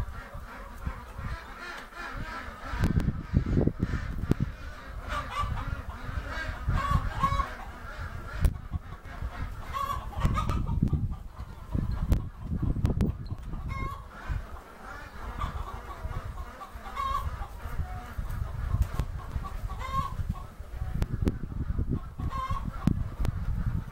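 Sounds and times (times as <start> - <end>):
chickens clucking: 0.0 - 23.9
ducks quacking: 0.0 - 23.9.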